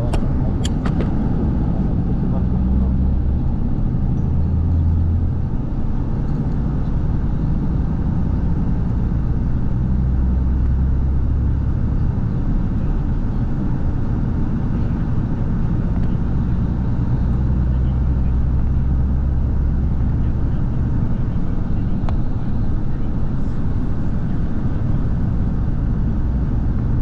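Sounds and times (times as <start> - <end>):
engine rumbling: 0.0 - 27.0.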